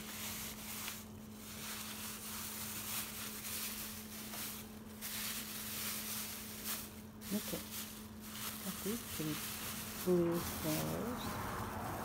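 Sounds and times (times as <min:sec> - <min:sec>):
plastic bag rustling: 0:00.0 - 0:12.0
steady low hum: 0:00.0 - 0:12.0.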